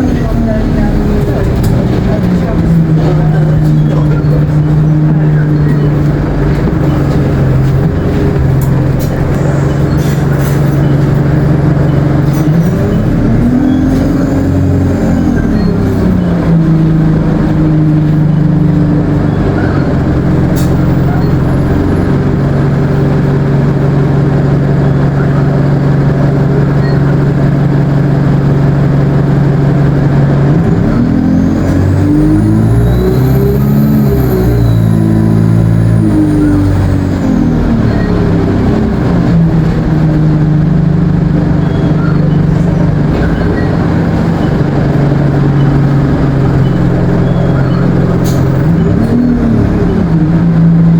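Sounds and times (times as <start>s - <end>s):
bus diesel engine running: 0.0s - 50.9s.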